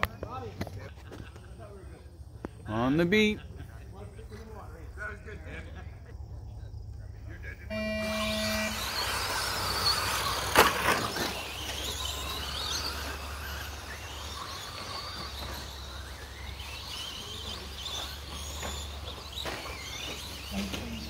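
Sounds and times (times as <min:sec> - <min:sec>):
rc truck motors whining: 0:04.0 - 0:21.0.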